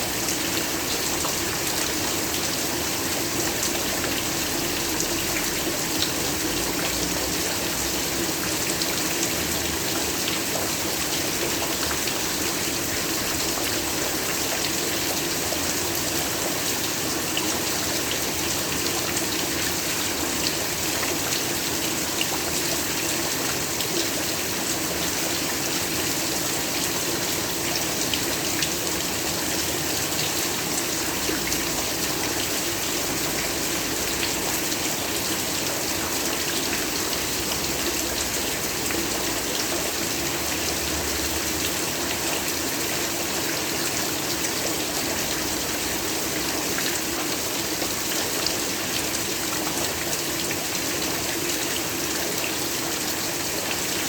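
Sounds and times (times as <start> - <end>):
heavy rainfall: 0.0 - 54.0.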